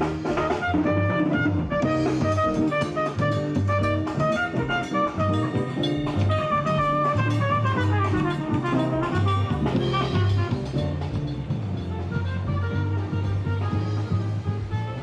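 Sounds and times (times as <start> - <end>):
bass line: 0.0 - 15.0
jazz music with brass and drums: 0.0 - 15.0.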